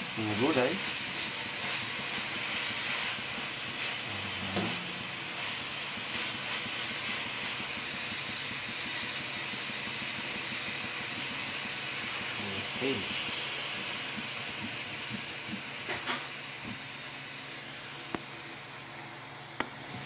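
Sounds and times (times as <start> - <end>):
egg sizzling in frying pan: 0.0 - 20.0.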